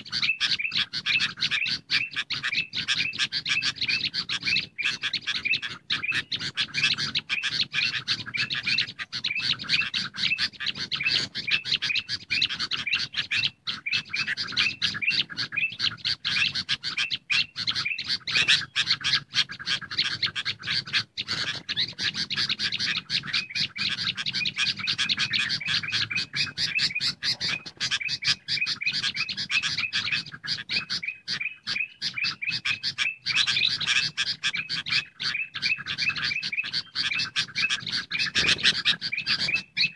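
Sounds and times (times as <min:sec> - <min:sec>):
bulbuls chattering and calling: 0:00.0 - 0:39.9.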